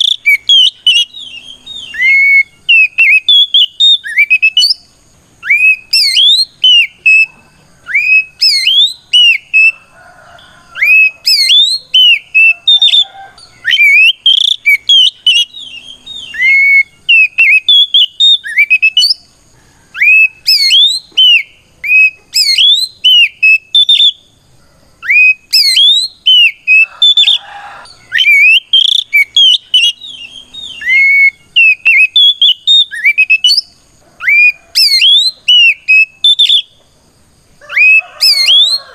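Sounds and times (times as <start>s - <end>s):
bird singing whistled song: 0.0s - 19.3s, 19.9s - 24.3s, 25.0s - 36.9s, 37.6s - 38.9s.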